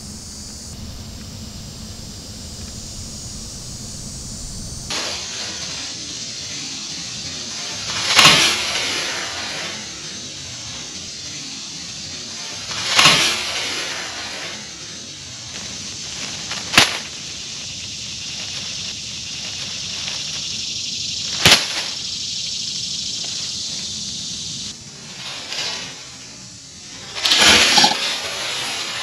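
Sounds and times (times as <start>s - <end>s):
steady high hiss: 0.0s - 29.0s.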